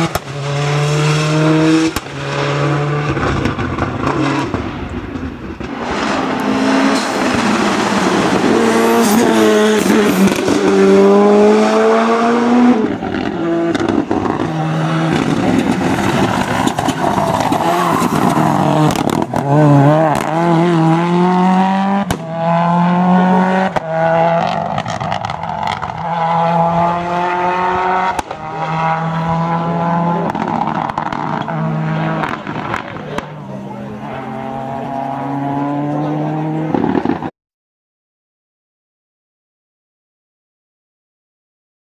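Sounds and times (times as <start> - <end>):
rally car engine at full throttle: 0.0 - 37.3.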